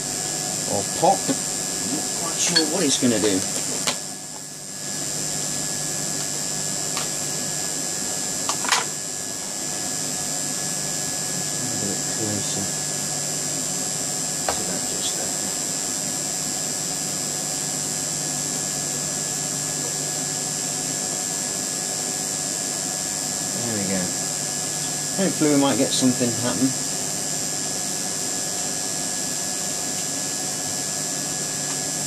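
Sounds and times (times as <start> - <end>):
electrical hum with high whine: 0.0 - 32.0.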